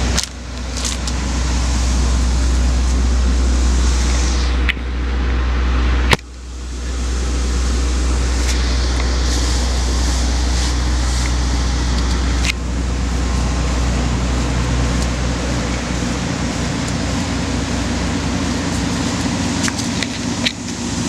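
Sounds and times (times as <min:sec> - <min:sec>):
large engine idling: 0:00.0 - 0:21.0.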